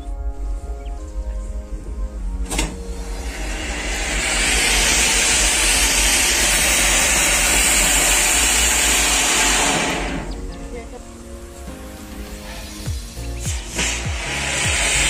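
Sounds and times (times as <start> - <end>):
firework fountain hissing: 2.4 - 15.0.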